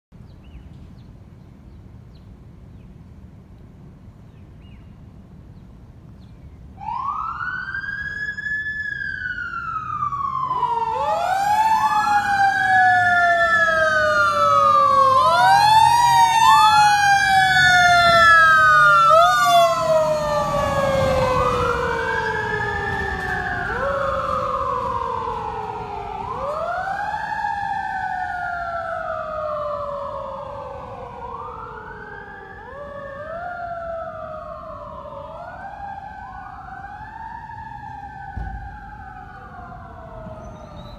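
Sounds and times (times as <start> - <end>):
fire engine sirens wailing: 6.8 - 40.9.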